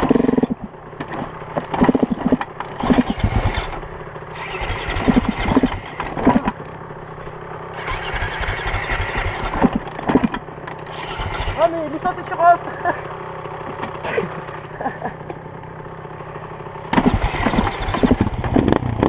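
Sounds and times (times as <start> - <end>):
dirt bike engine revving: 0.0 - 6.8, 7.5 - 19.0.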